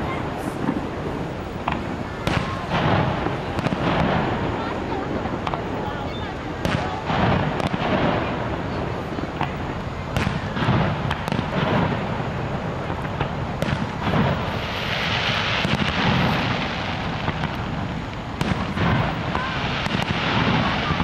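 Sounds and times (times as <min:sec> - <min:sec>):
background hiss: 0:00.0 - 0:21.0
fireworks bursting with bangs: 0:00.0 - 0:21.0.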